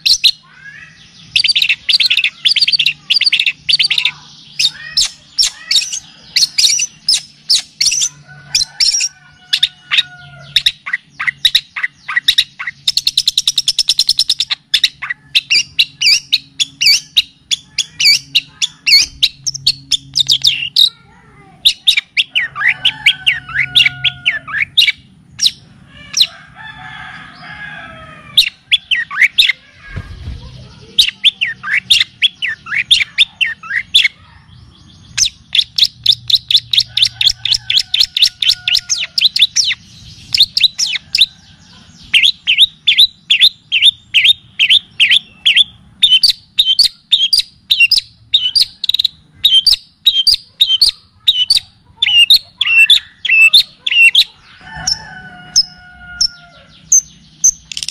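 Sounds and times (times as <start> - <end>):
songbird chirps and trills: 0.0 - 57.9.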